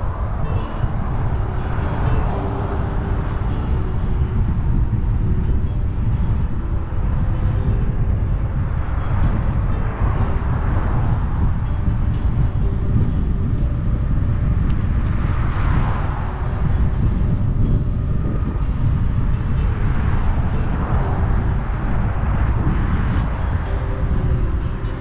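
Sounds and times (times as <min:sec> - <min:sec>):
car traffic passing: 0:00.0 - 0:25.0
wind buffeting microphone: 0:00.0 - 0:25.0.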